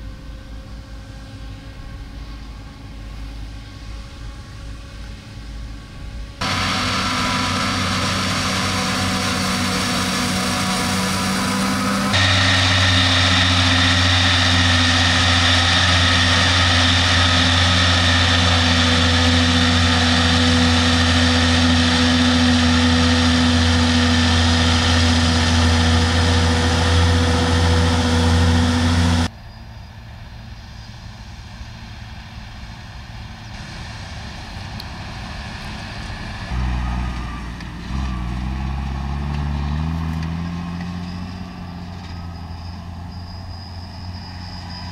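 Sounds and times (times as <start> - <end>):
drone rotors humming: 0.0 - 44.9
tractor engine under load: 3.6 - 29.3, 32.2 - 44.9.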